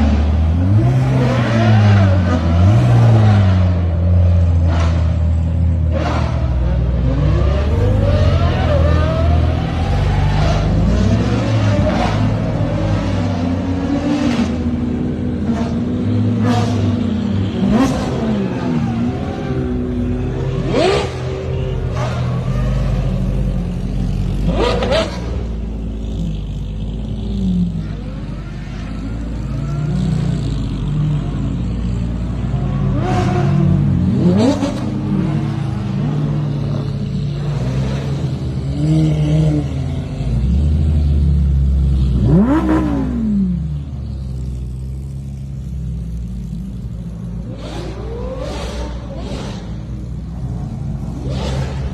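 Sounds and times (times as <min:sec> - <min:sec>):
sports car engines idling and revving: 0:00.0 - 0:51.9.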